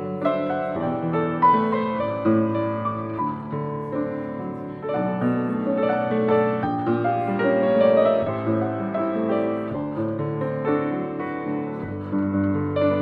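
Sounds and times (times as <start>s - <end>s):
solo jazz piano: 0.0s - 13.0s.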